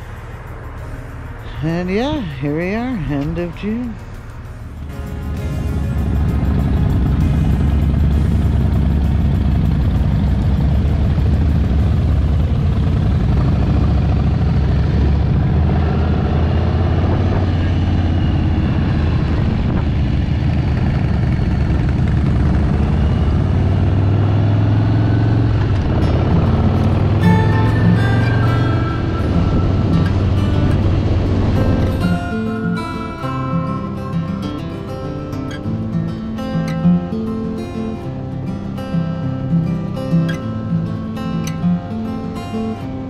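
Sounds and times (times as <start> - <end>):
motorcycle engine running: 0.0 - 36.4
wind and road noise: 0.0 - 43.0.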